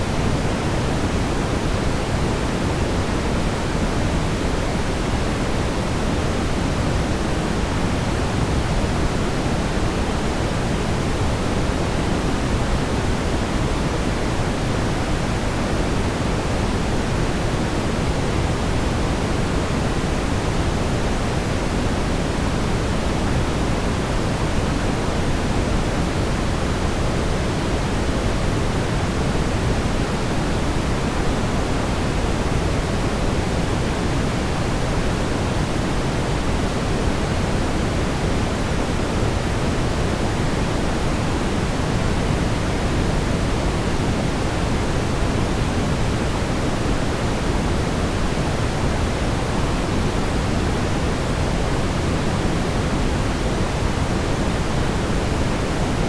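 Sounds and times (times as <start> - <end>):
brown noise low rumbling hiss: 0.0 - 56.0.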